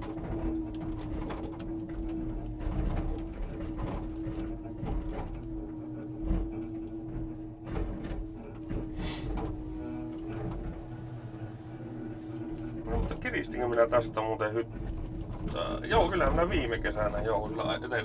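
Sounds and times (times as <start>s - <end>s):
hydraulic crane whine: 1.6s - 18.0s.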